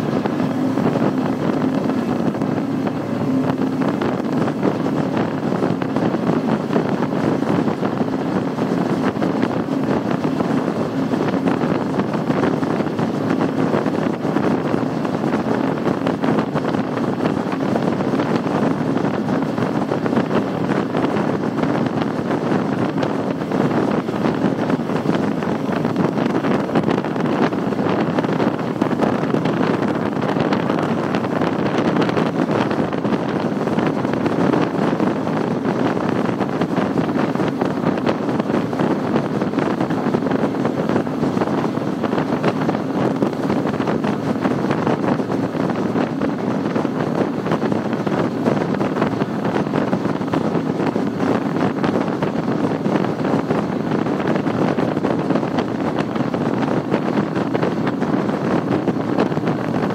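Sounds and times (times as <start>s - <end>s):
outboard engines roaring: 0.0s - 59.9s
rushing water: 0.0s - 59.9s
wind buffeting microphone: 0.0s - 59.9s.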